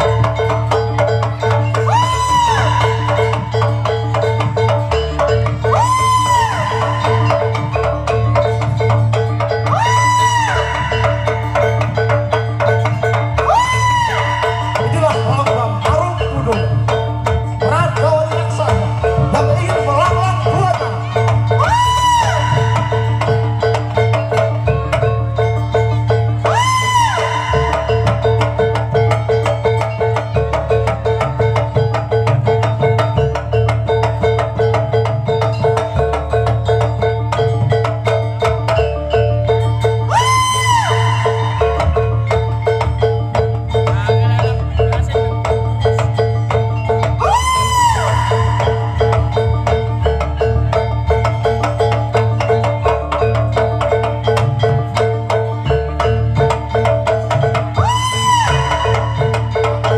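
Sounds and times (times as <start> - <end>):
gamelan metal percussion: 0.0 - 59.9
low drum: 0.0 - 59.9
struck metal-keyed notes: 0.0 - 59.9.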